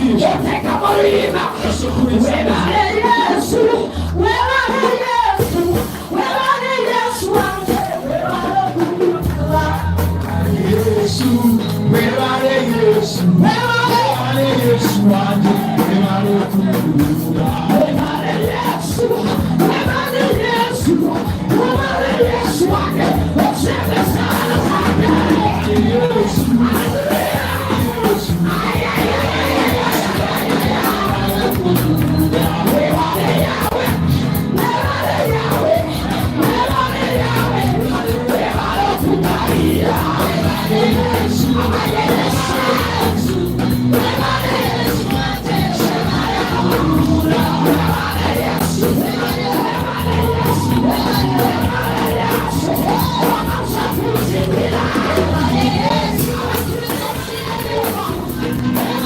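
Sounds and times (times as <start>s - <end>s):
church worship music with beat and bass: 0.0s - 59.0s
congregation singing and calling out: 0.0s - 59.0s.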